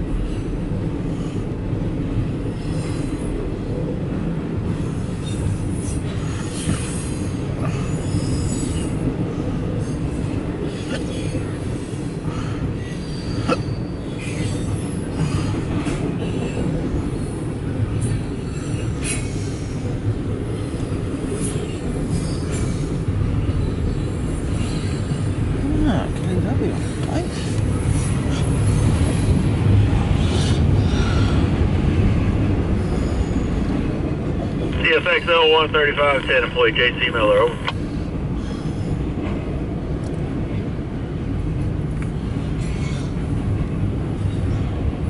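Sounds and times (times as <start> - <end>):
train clanks: 0.0 - 45.0
train wheels rumbling on rail: 0.0 - 45.0.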